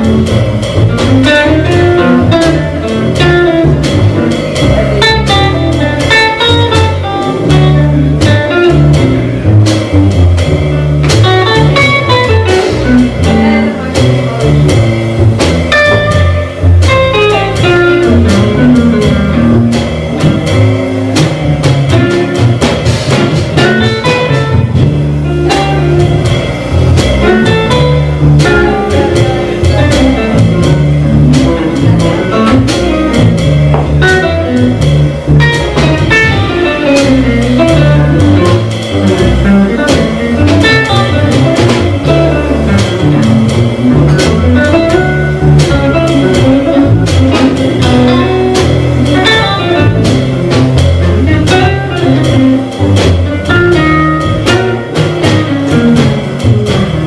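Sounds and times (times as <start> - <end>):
drum kit: 0.0 - 57.0
guitar: 0.0 - 57.0
upright double bass: 0.0 - 57.0.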